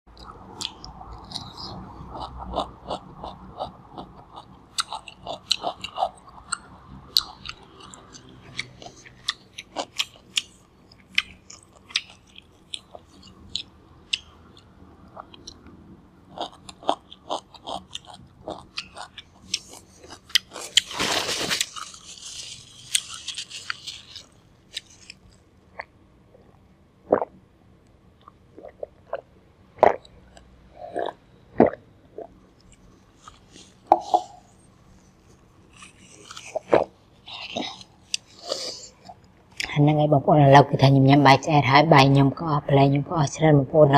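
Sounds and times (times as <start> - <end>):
crunchy chewing: 0.2 - 27.3, 28.2 - 39.7.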